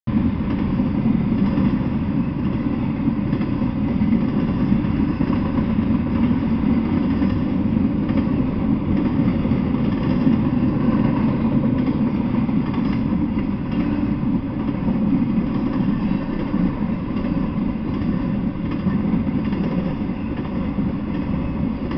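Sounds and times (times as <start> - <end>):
train wheels on rails: 0.1 - 21.9.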